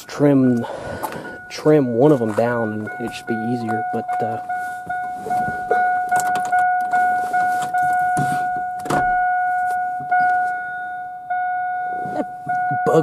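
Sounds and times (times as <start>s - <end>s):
dashboard warning chime: 0.0s - 13.0s.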